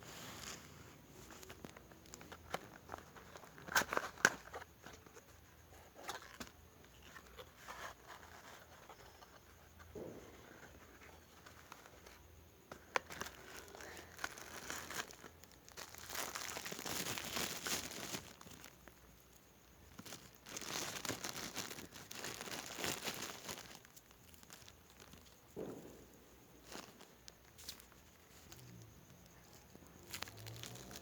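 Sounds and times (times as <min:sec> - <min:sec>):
packaging crinkling and rustling: 0:00.2 - 0:25.4, 0:26.6 - 0:31.0.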